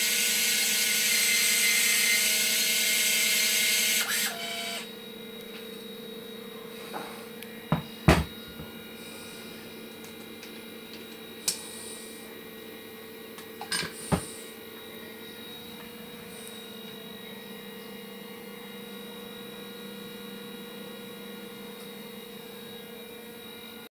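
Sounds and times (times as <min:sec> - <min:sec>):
electrical hum: 0:03.2 - 0:23.8.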